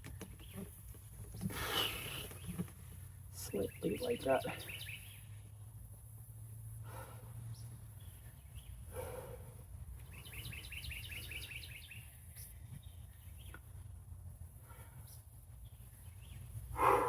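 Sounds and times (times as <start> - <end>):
small songbird chirping: 0.0 - 5.8, 7.4 - 13.9, 15.0 - 17.0
low outdoor hum: 0.0 - 17.0.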